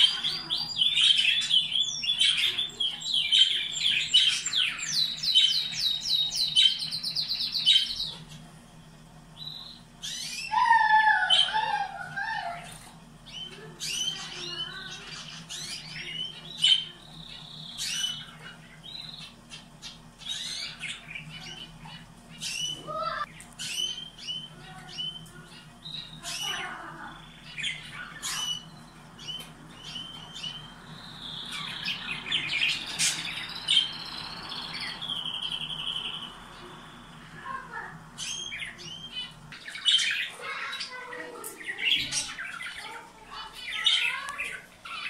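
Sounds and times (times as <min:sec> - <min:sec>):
canaries chirping and singing: 0:00.0 - 0:45.0.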